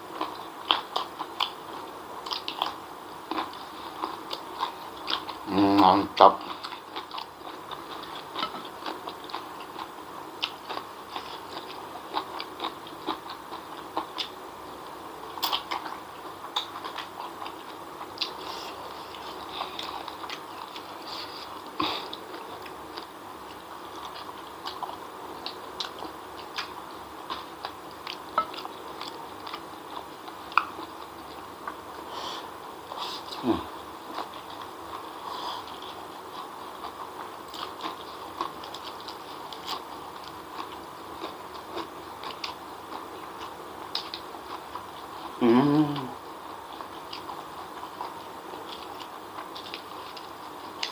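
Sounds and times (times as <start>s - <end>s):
person chewing noodles: 0.0s - 50.9s.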